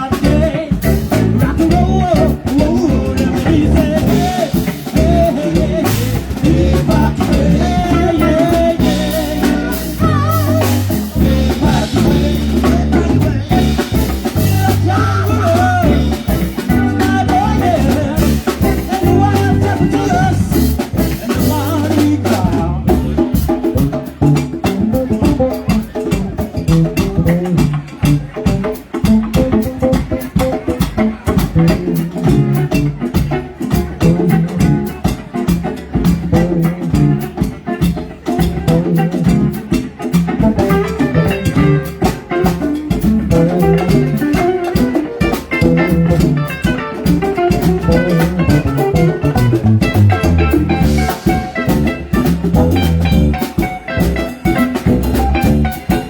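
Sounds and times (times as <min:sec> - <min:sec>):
drum kit beat: 0:00.0 - 0:56.0
live band music: 0:00.0 - 0:56.0.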